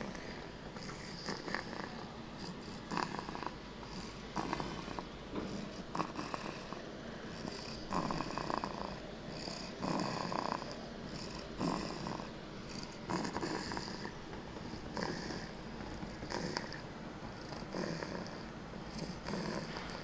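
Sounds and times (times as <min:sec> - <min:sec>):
child snoring: 0:00.0 - 0:16.8, 0:17.4 - 0:20.0.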